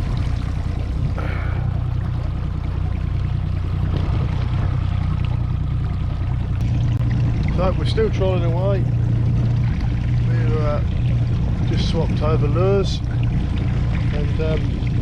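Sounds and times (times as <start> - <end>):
outboard motor humming: 0.0 - 15.0
water washing along hull: 0.0 - 15.0.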